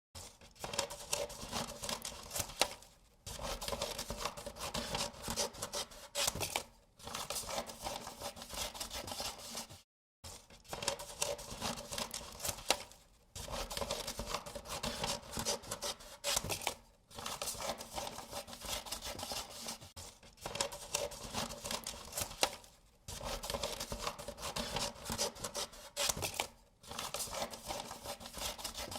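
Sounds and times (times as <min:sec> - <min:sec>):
paper being cut: 0:00.2 - 0:28.9.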